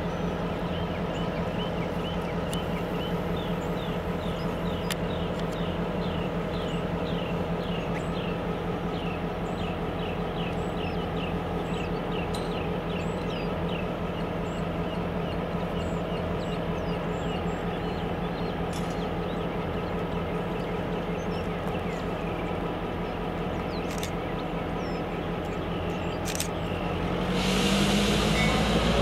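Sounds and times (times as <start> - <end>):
diesel locomotive idling: 0.0 - 29.0.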